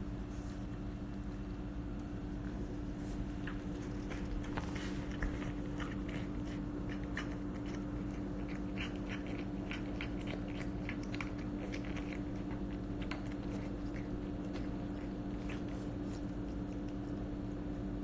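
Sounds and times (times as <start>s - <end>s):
steady low hum: 0.0s - 18.0s
cat chewing wet food: 1.0s - 18.0s.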